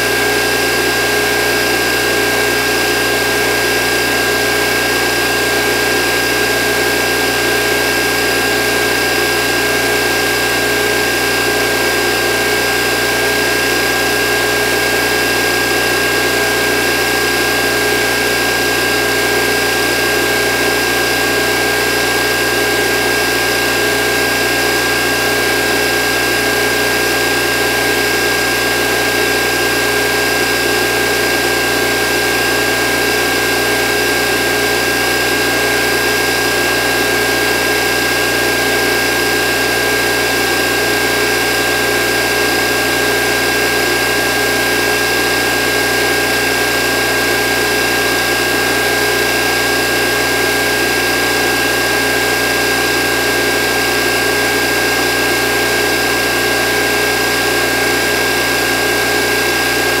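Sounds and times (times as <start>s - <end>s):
water pump motor whirring: 0.0s - 60.0s.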